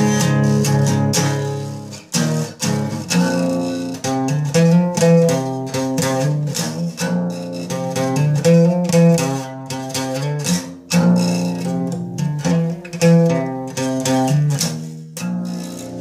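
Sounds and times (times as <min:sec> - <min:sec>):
fingerpicked acoustic guitar chords: 0:00.0 - 0:16.0.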